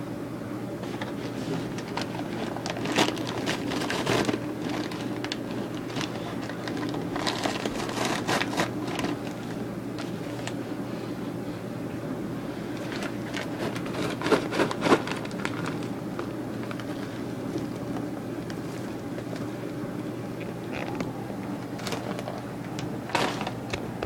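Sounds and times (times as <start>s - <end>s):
steady low hum: 0.0s - 24.0s
popcorn popping: 0.8s - 10.6s, 12.7s - 24.0s.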